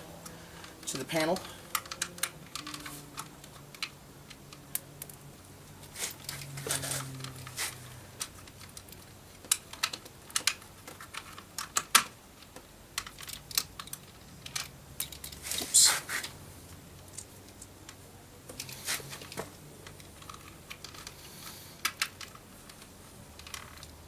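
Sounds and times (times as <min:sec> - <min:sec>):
plastic parts clicking and tapping: 0:00.2 - 0:05.2, 0:05.8 - 0:15.4, 0:16.8 - 0:24.0.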